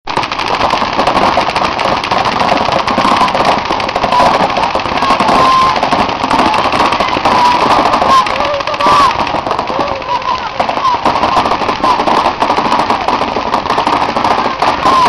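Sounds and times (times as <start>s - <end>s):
paintball markers firing: 0.1s - 15.0s.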